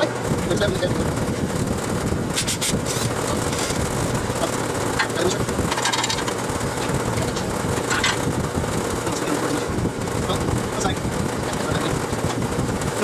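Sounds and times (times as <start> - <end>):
drum fan rushing: 0.0 - 13.0.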